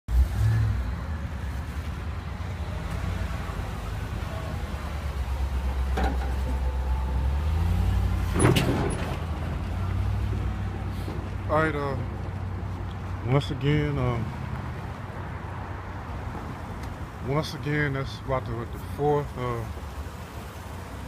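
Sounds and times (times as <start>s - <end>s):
low engine rumble: 0.1s - 21.0s.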